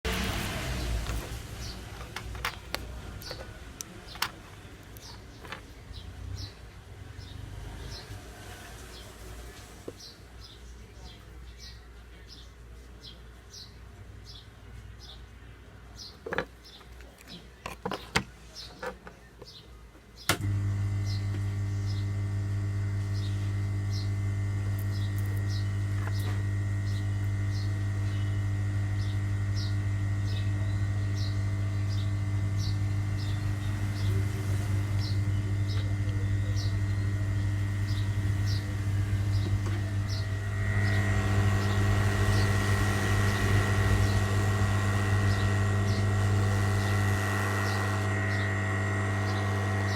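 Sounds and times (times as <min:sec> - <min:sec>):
hot-air station humming with fan: 0:00.0 - 0:49.9.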